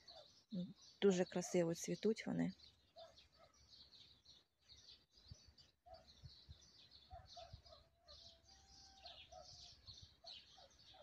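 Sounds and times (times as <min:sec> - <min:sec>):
small birds chirping and twittering: 0:00.0 - 0:11.0.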